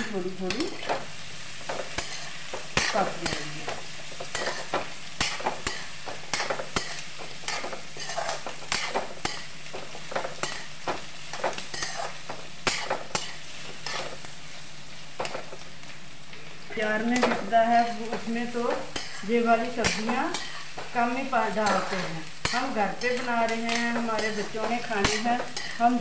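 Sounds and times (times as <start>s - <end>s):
vegetables sizzling in a pan: 0.0s - 26.0s
metal utensil scraping a pan: 1.7s - 10.7s, 11.3s - 14.2s, 17.0s - 26.0s.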